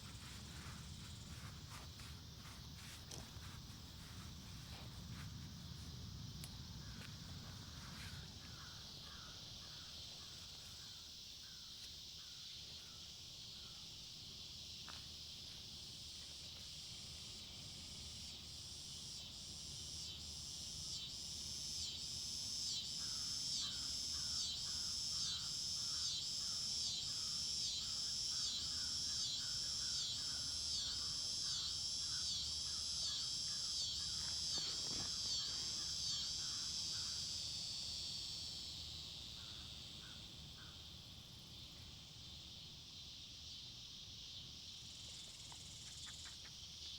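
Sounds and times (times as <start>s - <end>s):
insects buzzing in chorus: 0.0s - 46.9s.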